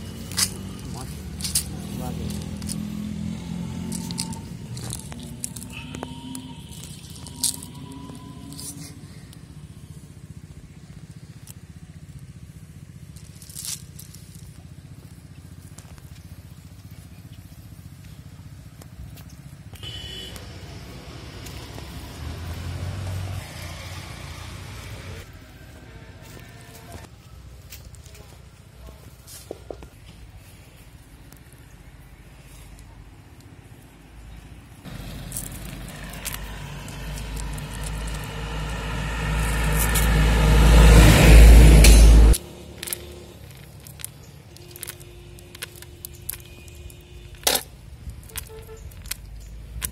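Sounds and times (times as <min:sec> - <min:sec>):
vehicle engine running: 0:00.0 - 0:29.0, 0:30.1 - 0:49.9.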